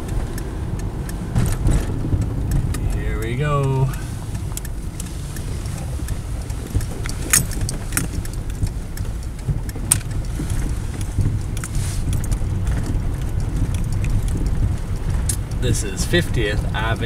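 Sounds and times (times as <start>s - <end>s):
car driving on slushy road: 0.0s - 17.0s
sharp clicks and rattles: 0.0s - 17.0s.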